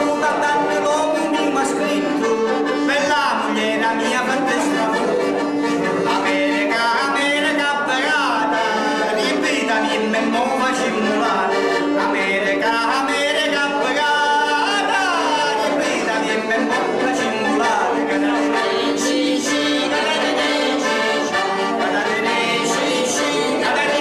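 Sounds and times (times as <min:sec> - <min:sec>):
man singing: 0:00.0 - 0:24.0
piano accordion chords: 0:00.0 - 0:24.0.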